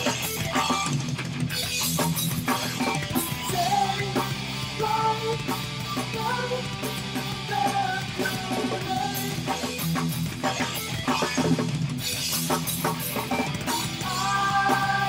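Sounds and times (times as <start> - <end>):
rock music with guitars and drums: 0.0 - 15.0.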